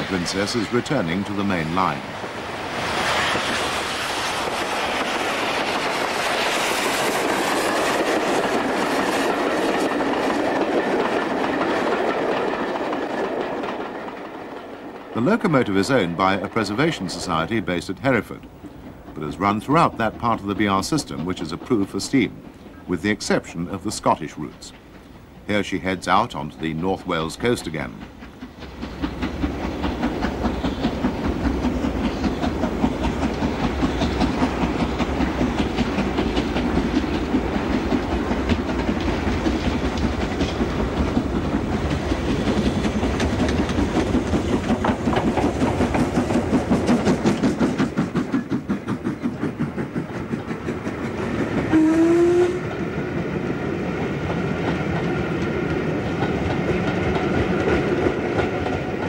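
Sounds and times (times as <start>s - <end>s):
steam locomotive exhaust beats: 0.0s - 59.0s
train coaches running past: 0.0s - 59.0s.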